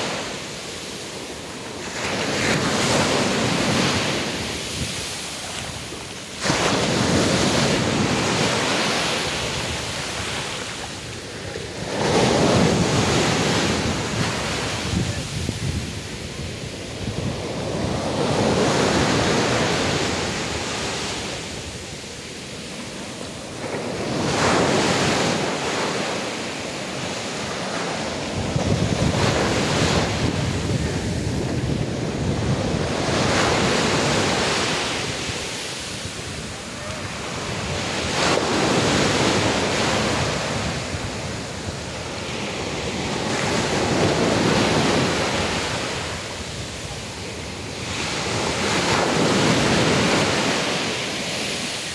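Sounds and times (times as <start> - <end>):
small waves washing over sand: 0.0 - 51.9.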